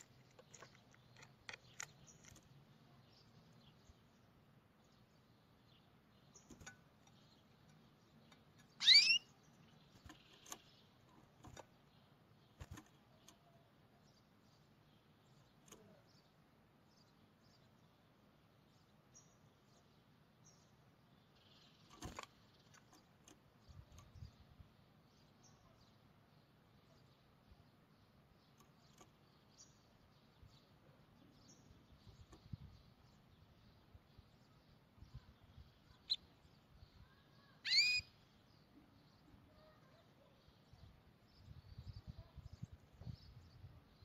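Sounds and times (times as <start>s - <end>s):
bird chirp: 0.0s - 44.0s.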